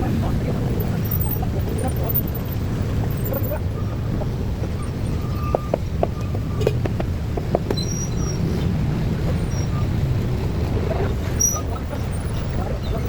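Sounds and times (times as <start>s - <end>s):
low rumble of passing vehicles: 0.0s - 13.0s.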